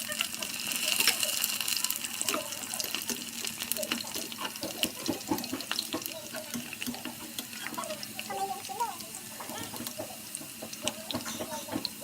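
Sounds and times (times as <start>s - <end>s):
oil sizzling with crackles: 0.0s - 12.0s.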